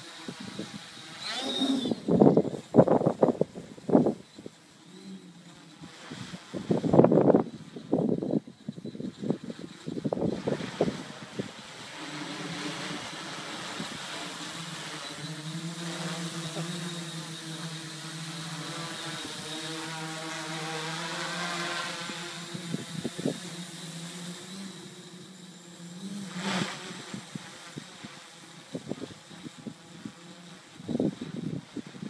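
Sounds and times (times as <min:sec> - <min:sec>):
wind noise on microphone: 0:00.0 - 0:05.2, 0:05.8 - 0:25.4, 0:26.0 - 0:32.0
quadcopter propellers buzzing: 0:00.0 - 0:32.0.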